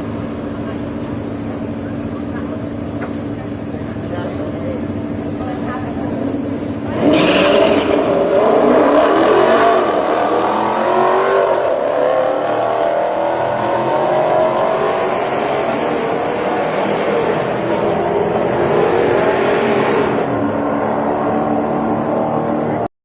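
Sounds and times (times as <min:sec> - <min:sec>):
drag racing cars accelerating: 0:00.0 - 0:22.9.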